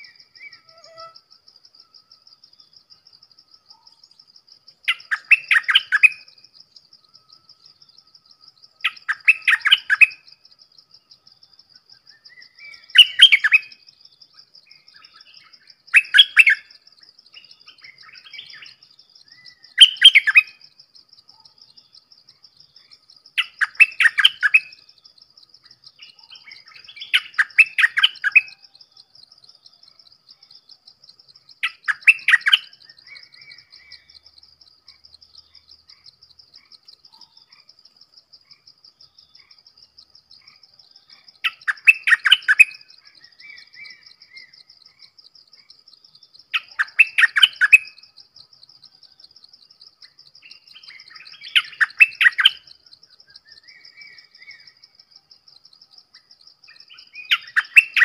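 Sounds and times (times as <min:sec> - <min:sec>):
bird singing loud phrases: 0:00.0 - 0:01.3, 0:03.5 - 0:10.5, 0:11.4 - 0:37.6, 0:39.0 - 0:45.1, 0:45.9 - 0:49.3, 0:50.0 - 0:55.5, 0:56.1 - 0:58.0.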